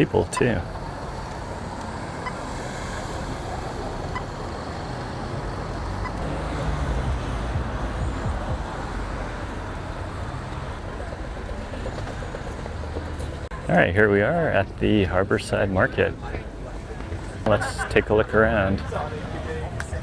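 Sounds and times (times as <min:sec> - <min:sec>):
road noise: 0:00.0 - 0:20.0
vehicle engine passing: 0:00.0 - 0:20.0.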